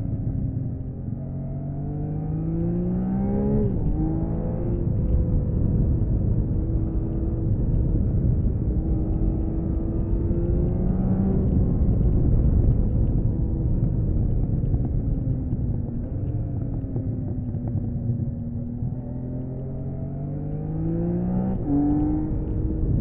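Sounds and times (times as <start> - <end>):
motorcycle engine under way: 0.0 - 23.0
wind rumble: 0.0 - 23.0.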